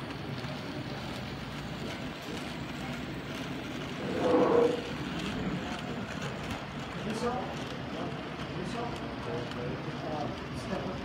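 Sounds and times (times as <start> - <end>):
model train rolling rumble: 0.0 - 11.0.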